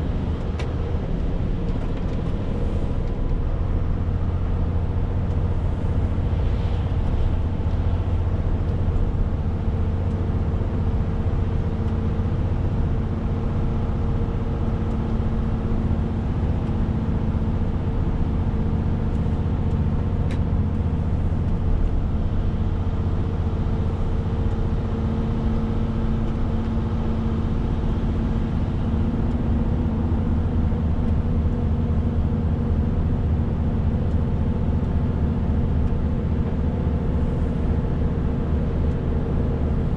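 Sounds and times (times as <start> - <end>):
road noise: 0.0 - 39.9
truck diesel engine drone: 0.0 - 39.9.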